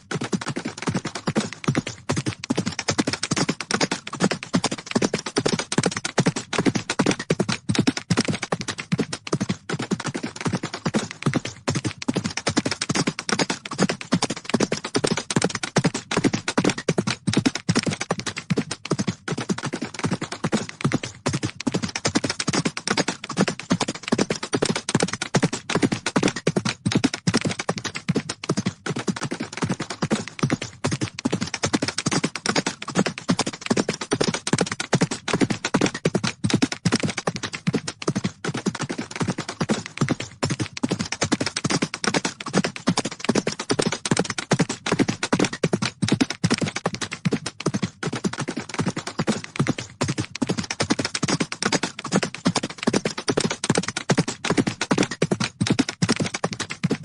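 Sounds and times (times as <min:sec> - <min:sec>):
horses galloping hoofbeats: 0:00.0 - 0:57.0.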